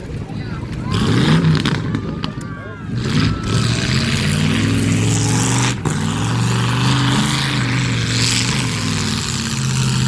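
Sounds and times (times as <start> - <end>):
car engines running hard: 0.0 - 10.0.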